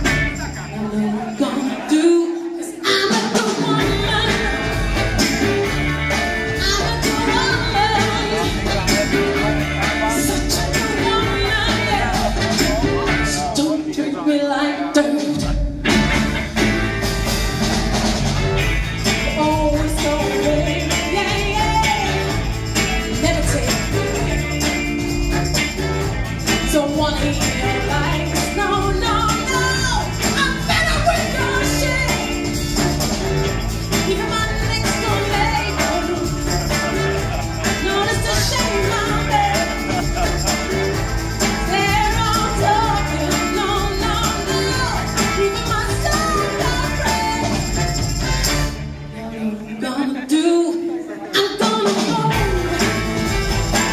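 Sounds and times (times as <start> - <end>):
woman singing: 0.0 - 16.2, 19.0 - 24.5, 26.5 - 32.9, 33.9 - 40.2, 41.4 - 48.2, 49.1 - 53.9
soul band playing live: 0.0 - 53.9.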